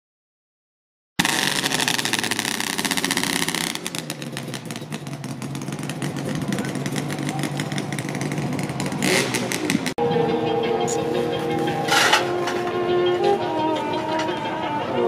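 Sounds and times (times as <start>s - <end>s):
motorcycle engine revving: 1.2s - 15.0s.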